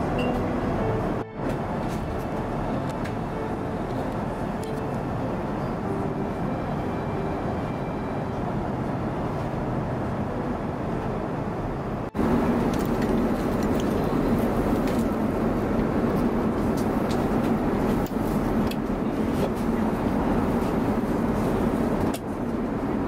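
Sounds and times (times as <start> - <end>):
airplane cabin engine hum: 0.0 - 23.0.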